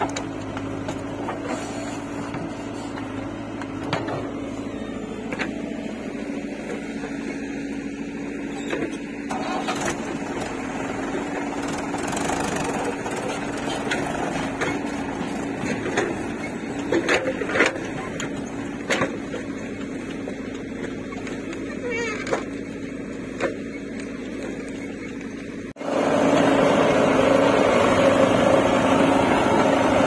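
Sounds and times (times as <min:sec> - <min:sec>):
diesel engines humming: 0:00.0 - 0:30.0.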